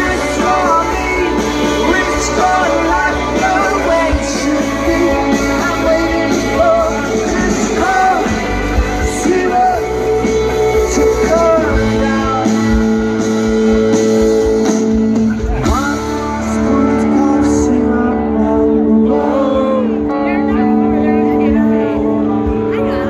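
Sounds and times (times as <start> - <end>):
person singing: 0.0 - 14.0, 14.9 - 23.0
live rock band: 0.0 - 23.0.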